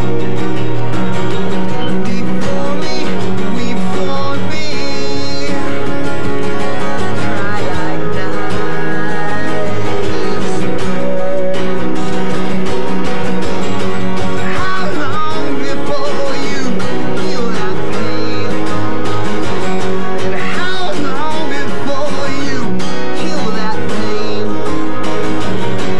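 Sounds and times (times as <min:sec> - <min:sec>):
acoustic guitars strummed together: 0:00.0 - 0:25.9
twelve-string guitar rapid strumming: 0:00.0 - 0:25.9.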